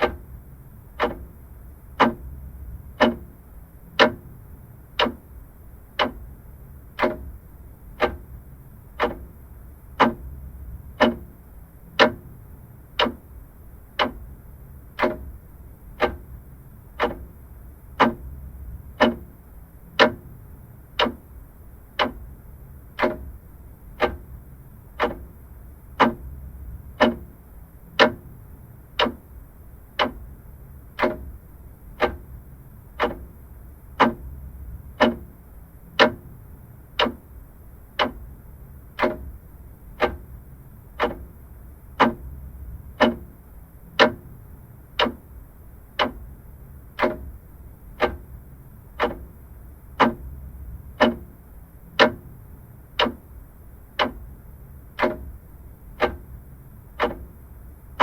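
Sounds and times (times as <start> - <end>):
mechanical clock ticking: 0.0 - 58.0.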